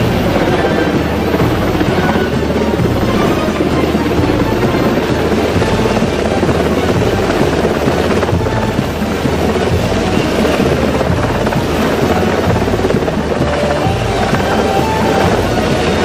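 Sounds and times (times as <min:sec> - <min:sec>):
helicopter rotor beat: 0:00.0 - 0:16.0.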